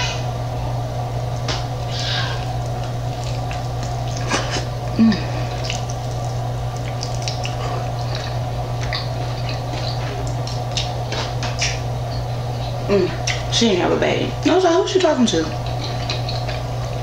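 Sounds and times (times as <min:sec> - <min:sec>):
steady low hum: 0:00.0 - 0:17.0
wet chewing and crunching: 0:01.4 - 0:13.5, 0:15.4 - 0:17.0.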